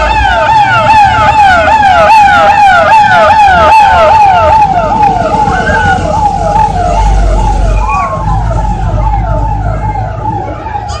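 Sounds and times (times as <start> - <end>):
fire truck siren wailing: 0.0 - 11.0
steady siren tone: 0.0 - 11.0
truck engine rumble: 0.0 - 11.0.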